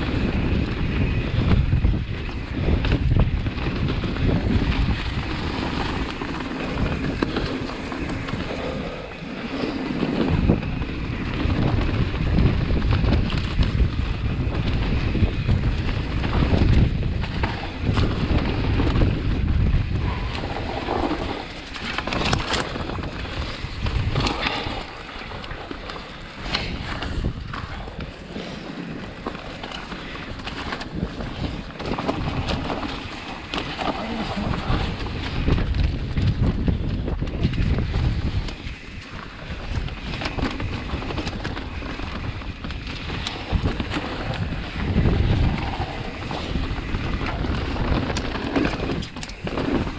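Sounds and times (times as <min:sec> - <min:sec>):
tyres rushing on dirt: 0:00.0 - 0:49.9
wind buffeting microphone: 0:00.0 - 0:49.9
bike knocks and rattles: 0:09.5 - 0:49.9.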